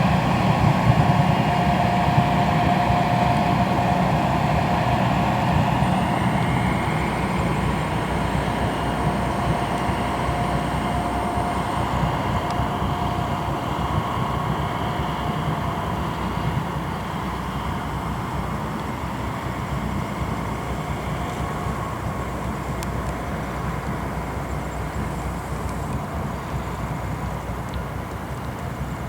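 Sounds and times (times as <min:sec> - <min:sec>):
boat diesel engine drone: 0:00.0 - 0:29.0
faint steady whine: 0:00.0 - 0:29.0.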